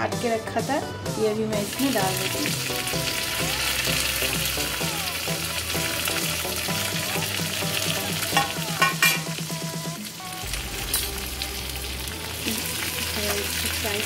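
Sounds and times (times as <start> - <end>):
soft background music: 0.0 - 14.0
spices sizzling in hot fat: 1.5 - 14.0.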